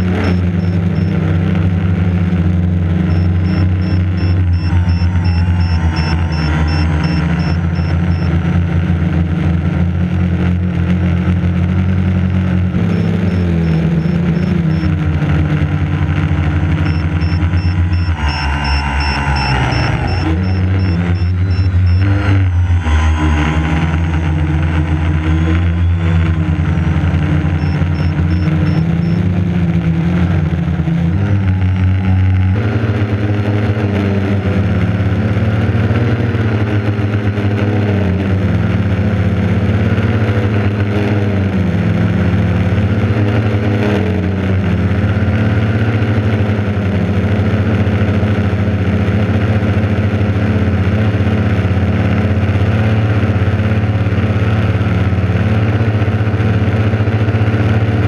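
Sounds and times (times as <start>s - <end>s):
drone motors and propellers: 0.0s - 58.0s.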